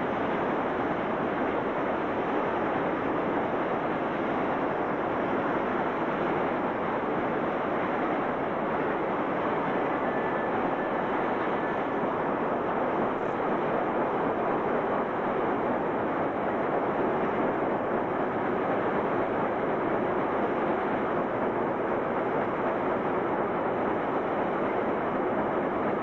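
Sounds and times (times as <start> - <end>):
freight train passing: 0.0 - 26.0.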